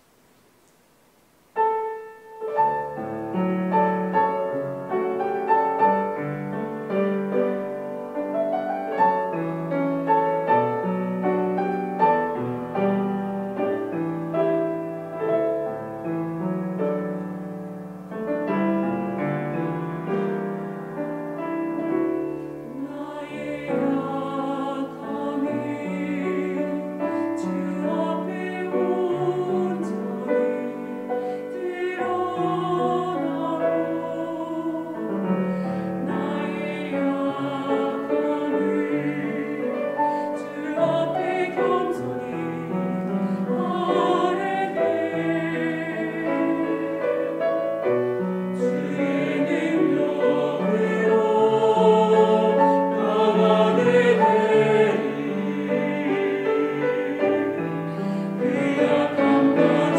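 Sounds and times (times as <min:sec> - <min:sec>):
grand piano playing slow hymn: 0:01.5 - 0:59.9
church choir singing: 0:02.4 - 0:59.9.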